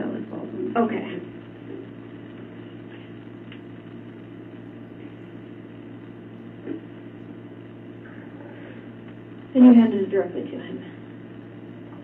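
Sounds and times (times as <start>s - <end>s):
room tone hum: 0.0s - 12.0s.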